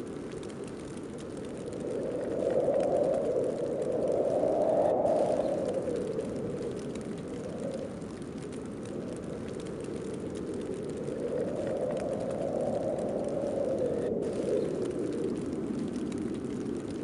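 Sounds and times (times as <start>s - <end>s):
snowstorm wind blowing: 0.0s - 17.0s.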